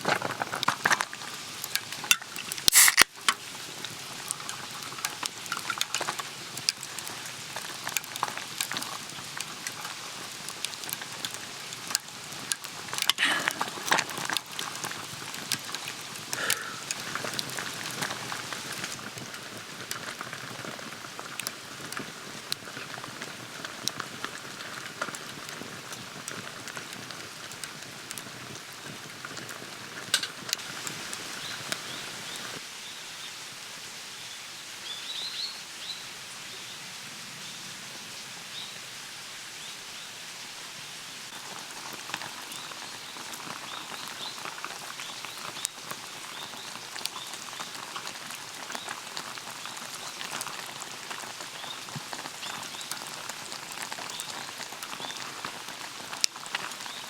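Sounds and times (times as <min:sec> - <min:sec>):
food sizzling on a griddle: 0:00.0 - 0:57.0.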